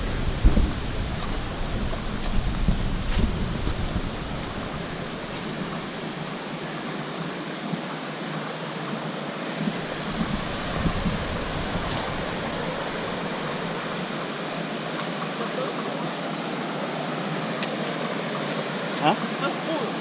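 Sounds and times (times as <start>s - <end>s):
river and waterfalls rushing: 0.0s - 20.0s.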